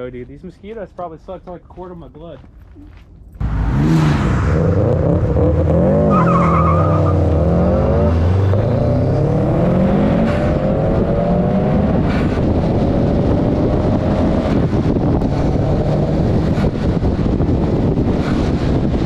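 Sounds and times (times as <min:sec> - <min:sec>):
car engine accelerating hard: 0:03.4 - 0:19.0.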